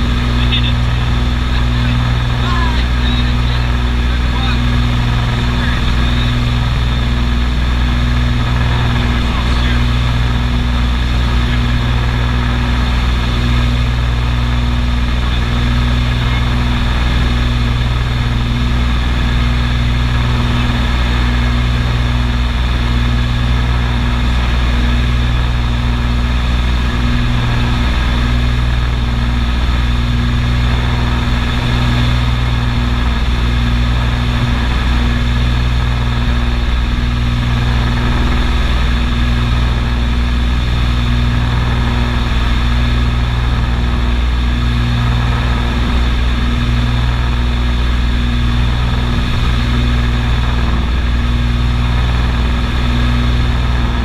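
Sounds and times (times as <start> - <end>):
aircraft engine cabin drone: 0.0 - 54.0.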